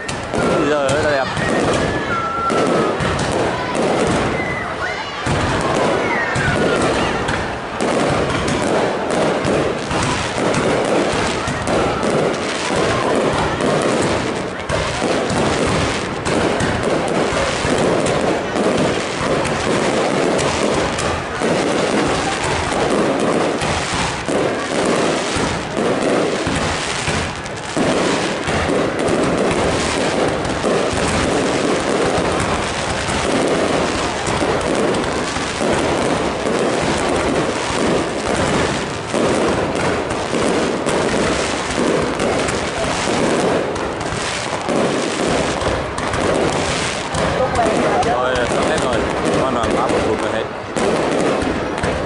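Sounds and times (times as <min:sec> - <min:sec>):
fireworks bursts and crackling: 0:00.0 - 0:52.0.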